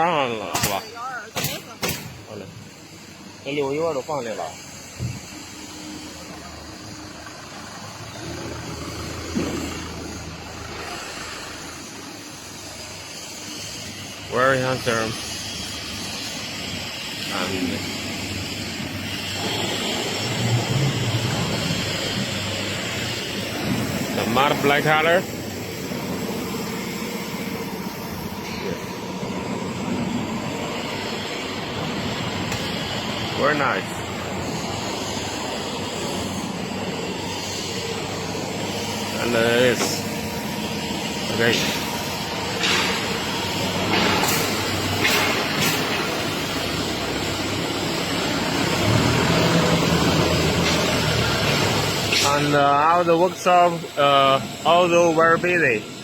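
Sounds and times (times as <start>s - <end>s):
engine idling with low hum: 0.0s - 56.0s
machinery rumble and hiss: 0.0s - 56.0s.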